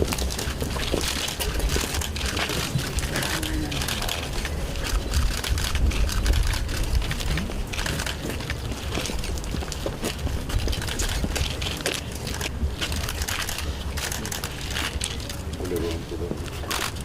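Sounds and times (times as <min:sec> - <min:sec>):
wind buffeting microphone: 0:00.0 - 0:14.8
crackling and rustling: 0:00.0 - 0:17.0.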